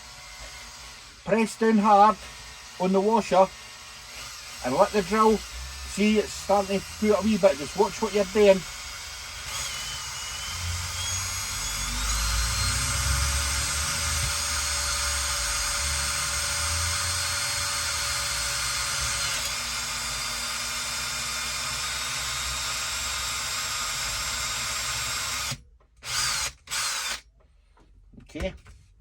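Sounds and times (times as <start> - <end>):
electric drill whining: 0.0 - 27.3.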